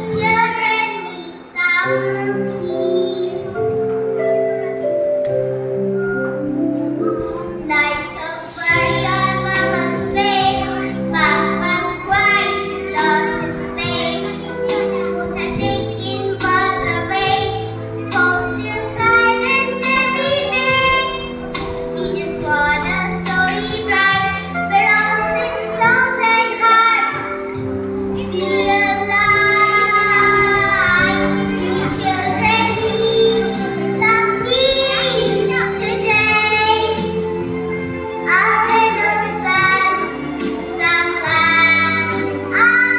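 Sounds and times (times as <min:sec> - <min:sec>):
child singing: 0:00.0 - 0:05.0, 0:06.2 - 0:42.9
instrumental backing music: 0:00.0 - 0:42.9.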